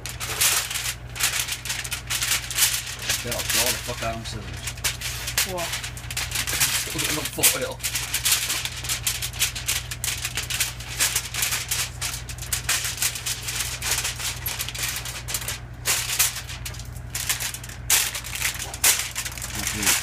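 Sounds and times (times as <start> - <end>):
aluminium foil crinkling: 0.0 - 20.0
steady low hum: 0.0 - 20.0.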